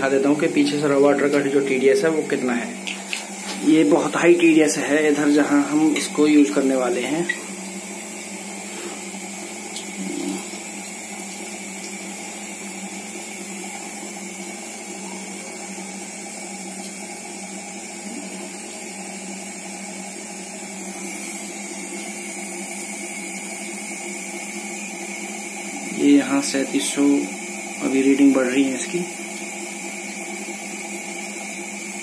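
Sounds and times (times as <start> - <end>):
pump humming: 0.0 - 32.0.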